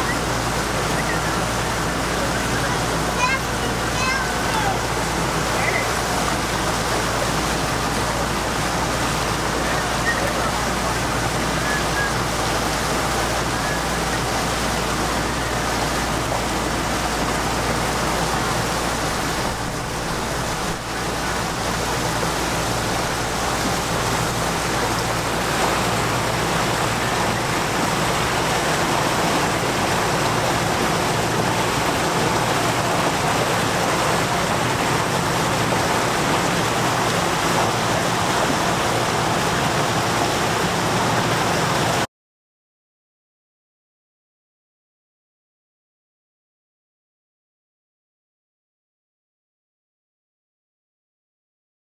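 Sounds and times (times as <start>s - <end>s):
boat engine hum: 0.0s - 42.1s
water rushing along hull: 0.0s - 42.1s.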